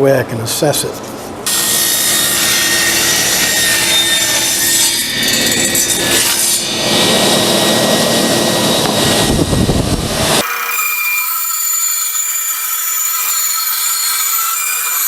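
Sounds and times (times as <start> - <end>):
power saw cutting wood: 1.4 - 15.0.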